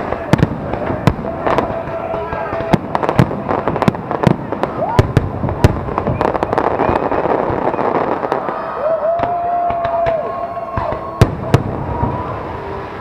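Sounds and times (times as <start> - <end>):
fireworks bangs: 0.0 - 13.0
fireworks crackling: 0.0 - 13.0
fireworks whistling: 0.0 - 13.0.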